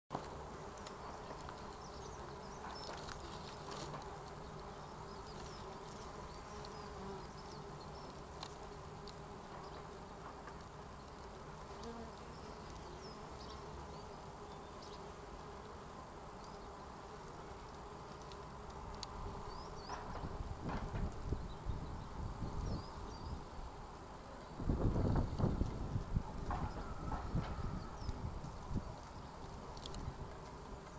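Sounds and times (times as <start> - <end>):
bees buzzing: 0.1 - 30.9.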